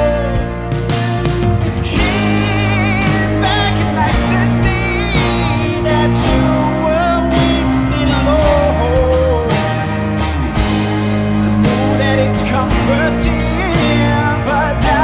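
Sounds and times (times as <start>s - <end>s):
live rock band playing: 0.0s - 15.0s
wavering melody line: 0.0s - 15.0s.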